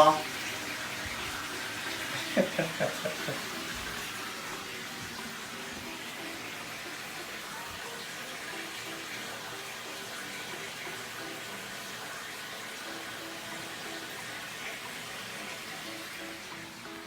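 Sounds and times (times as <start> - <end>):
tap water running into bathtub: 0.0 - 17.0.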